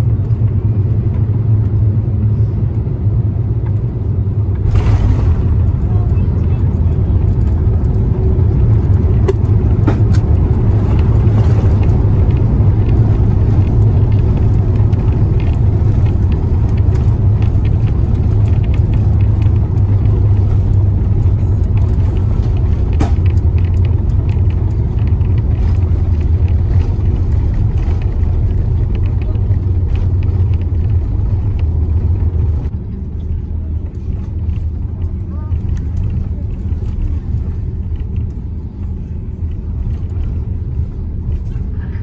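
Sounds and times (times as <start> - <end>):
airplane cabin rumble on runway: 0.0 - 42.0.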